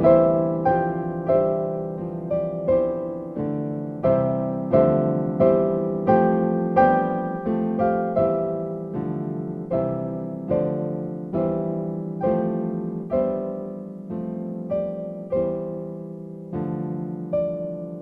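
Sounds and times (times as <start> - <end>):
slow gentle piano melody: 0.0 - 18.0.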